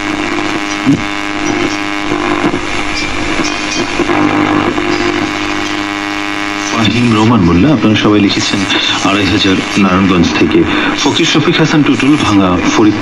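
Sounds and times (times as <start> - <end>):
radio buzzing hum and hiss: 0.0 - 13.0.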